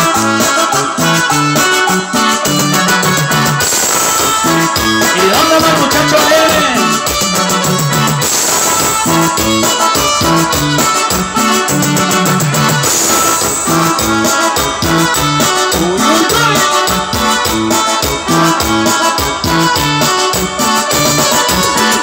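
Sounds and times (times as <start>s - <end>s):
keyboard music through speakers: 0.0s - 22.0s.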